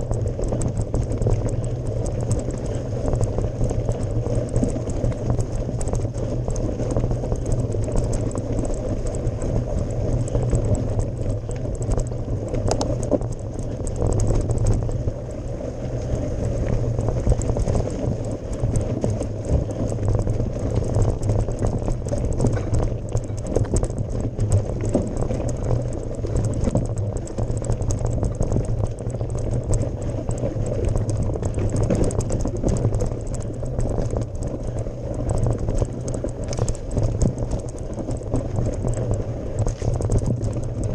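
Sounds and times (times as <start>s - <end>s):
bike clicks and rattles: 0.0s - 40.9s
tyres rolling over gravel: 0.0s - 40.9s.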